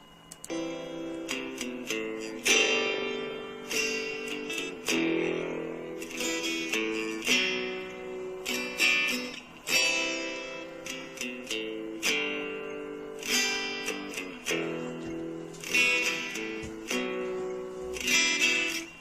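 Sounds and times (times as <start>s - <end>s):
acoustic guitar strummed chords: 0.0s - 19.0s.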